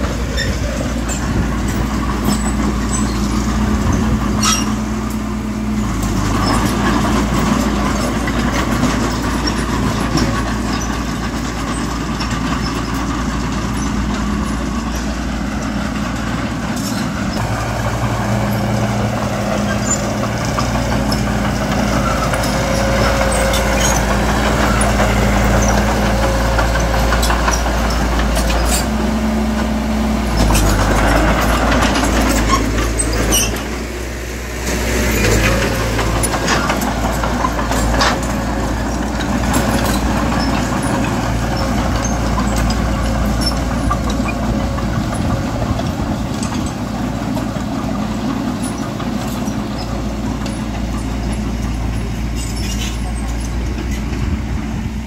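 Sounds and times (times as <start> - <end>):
diesel machinery engine: 0.0 - 55.0
knocks and clanks: 5.9 - 33.9, 34.7 - 54.6.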